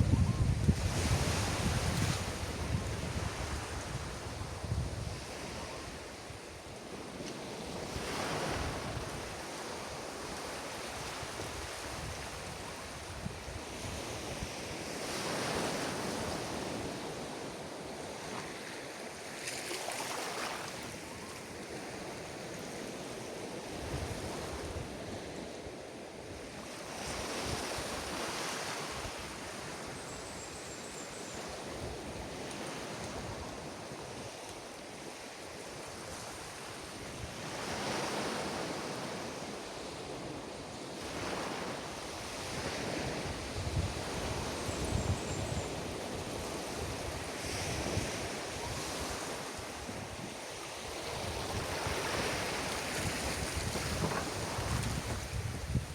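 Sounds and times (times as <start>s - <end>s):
ocean waves breaking on beach: 0.0s - 55.9s.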